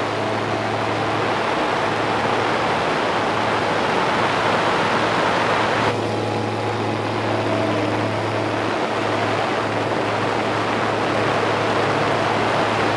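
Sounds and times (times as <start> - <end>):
aircraft engine and propeller humming: 0.0 - 12.9
wind rush on camera: 0.0 - 12.9.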